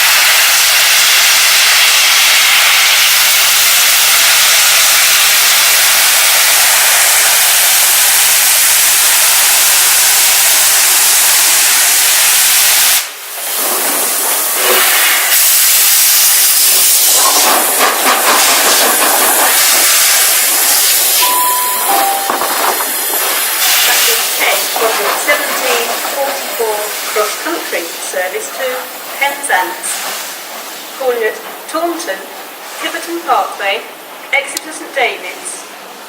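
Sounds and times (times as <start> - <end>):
steam locomotive hissing: 0.0 - 34.3.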